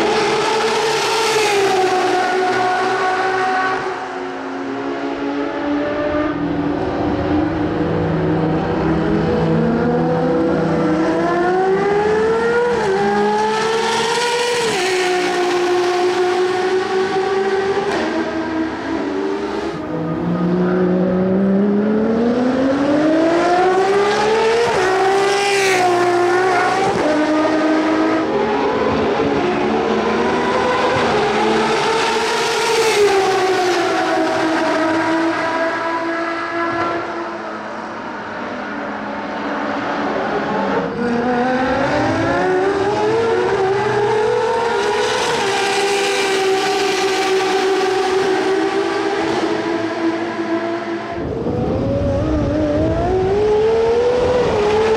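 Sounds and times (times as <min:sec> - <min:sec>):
race cars accelerating past: 0:00.0 - 0:54.9.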